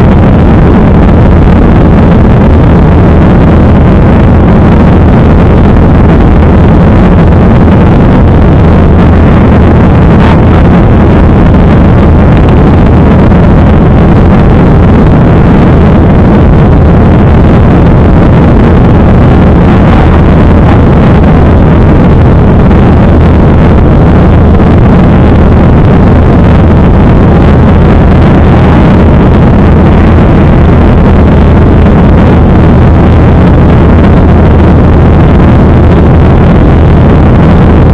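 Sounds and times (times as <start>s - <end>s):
airliner engine noise in cabin: 0.0s - 37.9s.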